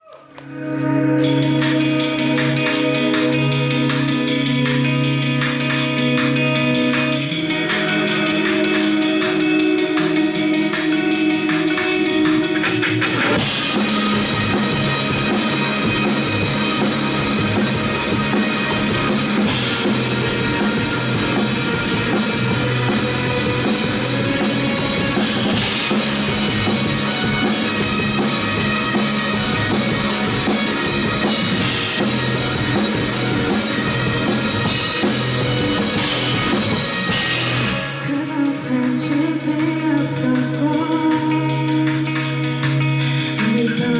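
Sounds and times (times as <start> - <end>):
live rock band playing: 0.3 - 43.9
drum kit: 0.4 - 43.9.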